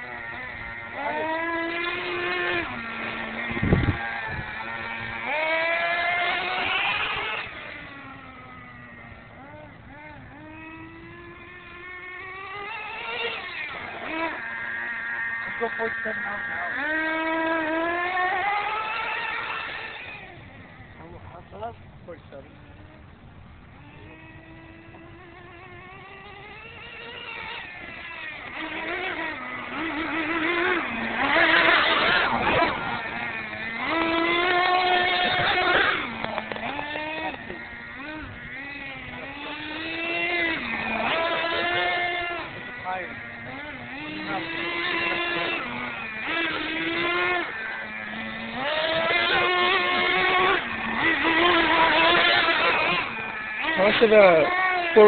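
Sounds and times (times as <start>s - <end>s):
rc truck motor: 0.0s - 55.0s.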